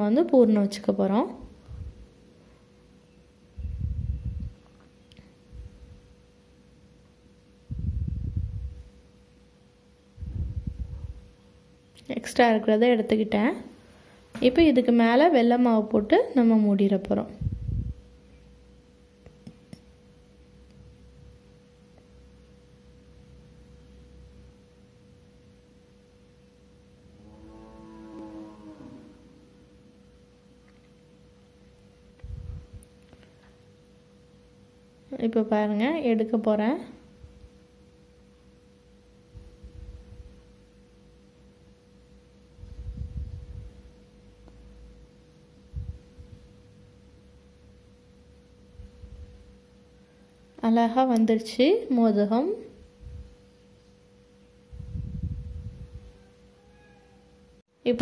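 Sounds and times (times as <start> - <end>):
faint steady hum: 0.0 - 58.0
faint steady pure tone: 0.0 - 58.0
low room rumble: 0.0 - 58.0.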